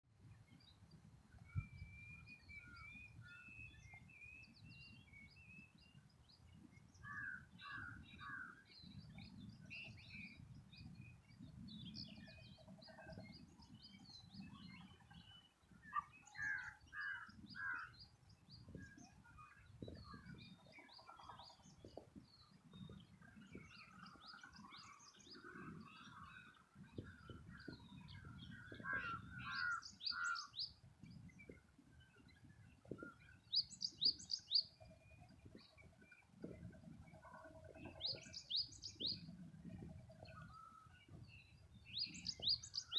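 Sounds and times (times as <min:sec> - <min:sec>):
small birds chirping: 0:00.3 - 0:42.9.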